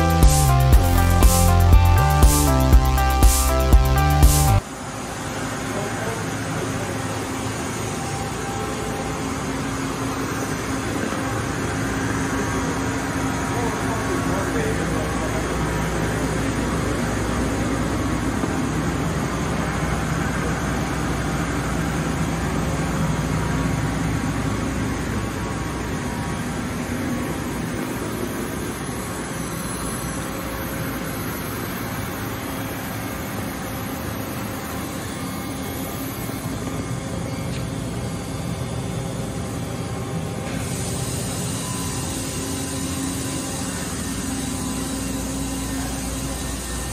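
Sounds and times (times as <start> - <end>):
machining center hum and whir: 0.0 - 46.9.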